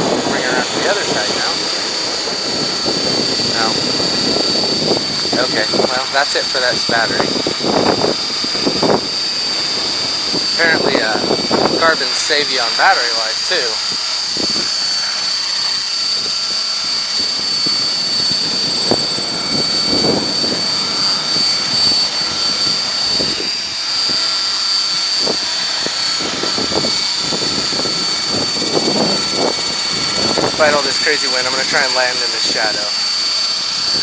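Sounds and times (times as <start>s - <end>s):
rc helicopter rotor whine: 0.0s - 34.0s
wind buffeting microphone: 0.0s - 34.0s.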